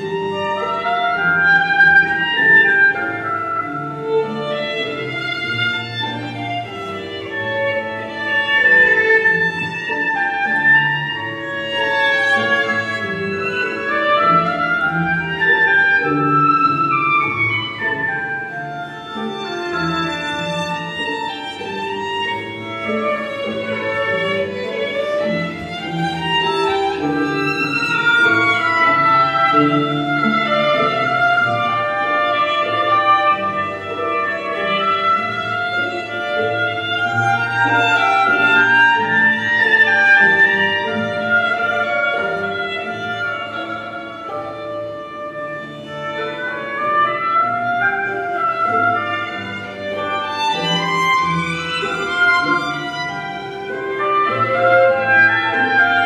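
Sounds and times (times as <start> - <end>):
bowed string melody: 0.0 - 56.0.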